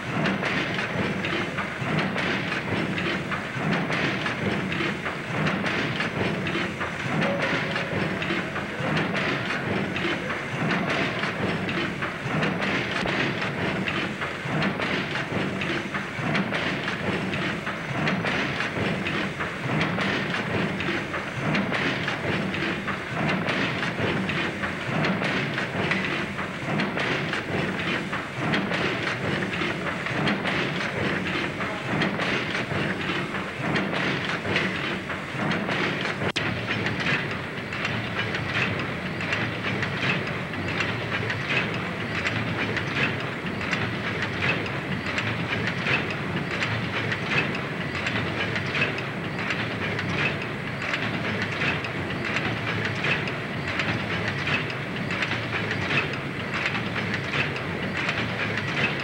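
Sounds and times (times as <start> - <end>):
steam engine mechanical clatter: 0.0 - 59.0.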